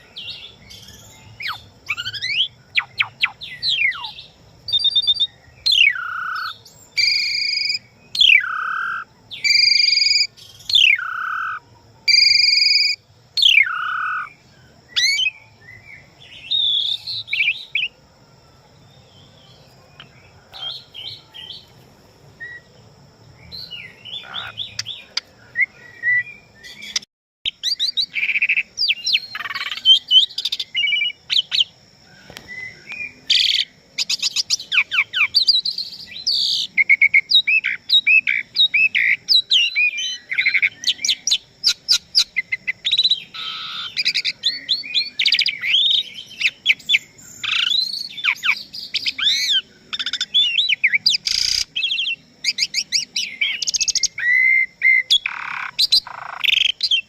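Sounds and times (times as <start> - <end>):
starling singing: 0.0 - 18.0, 19.2 - 21.7, 23.4 - 31.8, 32.4 - 57.0.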